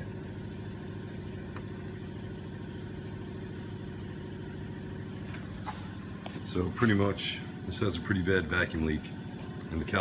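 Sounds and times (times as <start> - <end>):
pump humming: 0.0 - 10.0.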